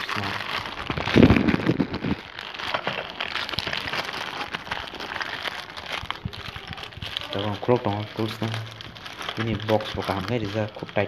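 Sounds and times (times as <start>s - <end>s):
plastic mailer bag tearing and crinkling: 0.0s - 11.0s.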